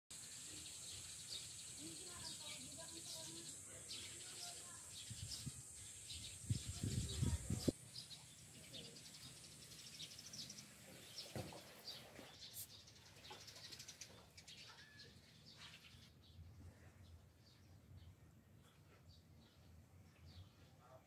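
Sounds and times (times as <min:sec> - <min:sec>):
faint bird chirps: 0:00.2 - 0:21.0.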